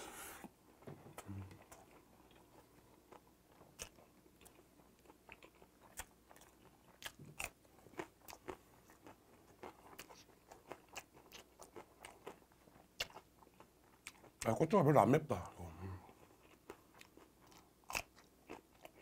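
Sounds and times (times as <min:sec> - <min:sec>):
crunchy chewing of chili pepper: 0:01.2 - 0:14.4, 0:16.1 - 0:19.0.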